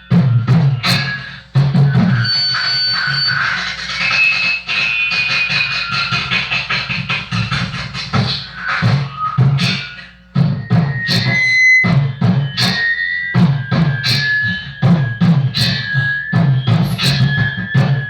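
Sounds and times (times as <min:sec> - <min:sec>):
instrumental rap beat: 0:00.0 - 0:18.0.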